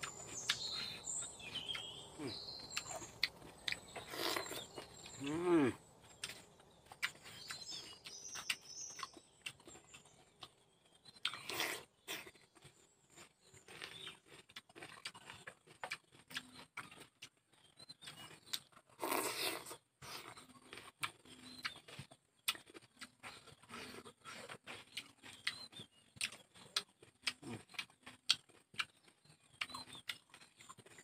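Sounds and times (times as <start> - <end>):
chewing and crunching: 0.0 - 31.0.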